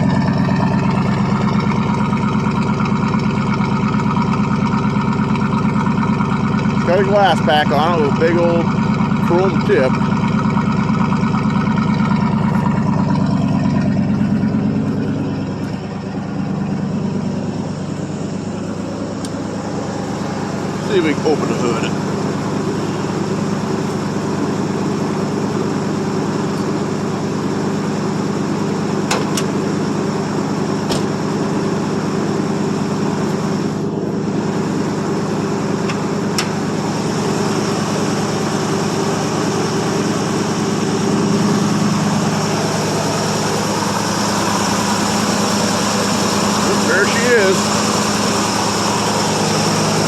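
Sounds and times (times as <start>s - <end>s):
pickup truck engine idling: 0.0s - 50.0s.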